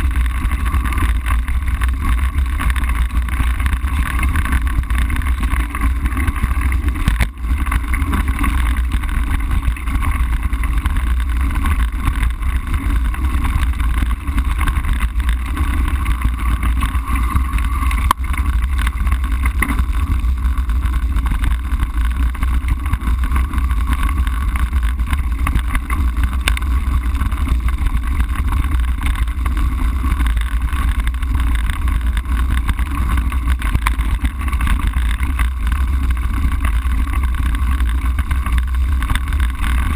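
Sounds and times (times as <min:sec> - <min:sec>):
bike tyres crunching on gravel: 0:00.0 - 0:39.9
wind rumbling on microphone: 0:00.0 - 0:39.9.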